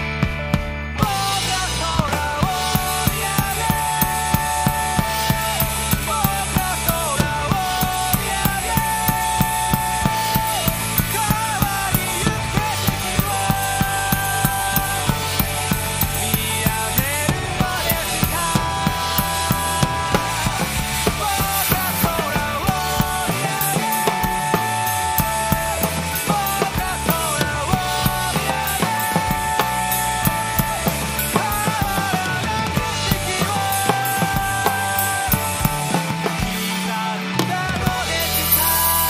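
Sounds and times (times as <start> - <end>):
drum kit beat: 0.0 - 39.0
rock band playing: 0.0 - 39.0
person singing: 1.0 - 39.0.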